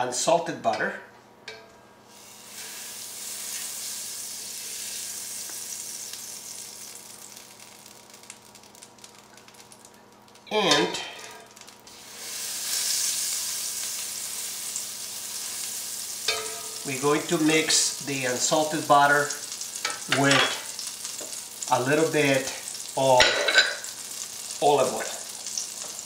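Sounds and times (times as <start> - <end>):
butter sizzling in a skillet: 2.1 - 26.0.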